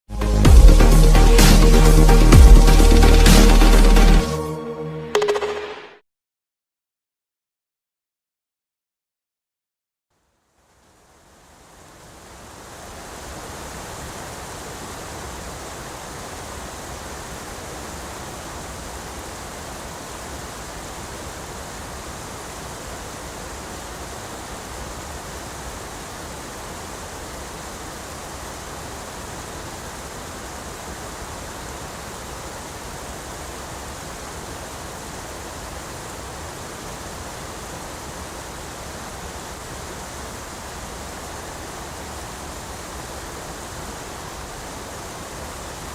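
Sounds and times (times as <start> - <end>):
waterfall rushing: 0.1 - 4.4, 11.3 - 45.9.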